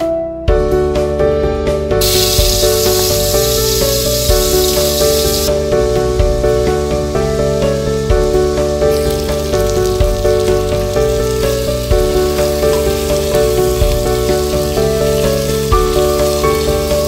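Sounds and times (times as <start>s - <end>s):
instrumental music: 0.0s - 17.0s
onions and chicken sizzling in oil: 2.0s - 17.0s.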